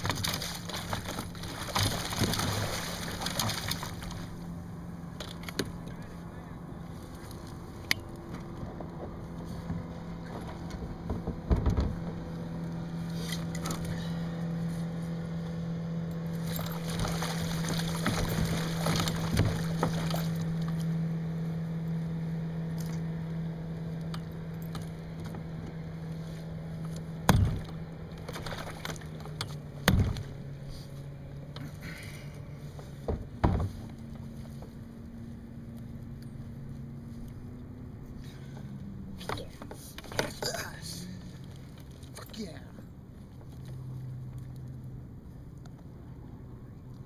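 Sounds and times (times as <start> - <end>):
motor hum: 0.0 - 47.0.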